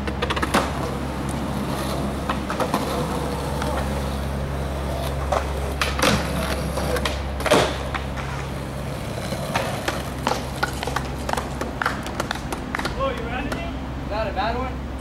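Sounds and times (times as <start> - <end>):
skateboard clacking: 0.0 - 13.7
skateboard rolling on concrete: 0.0 - 13.7.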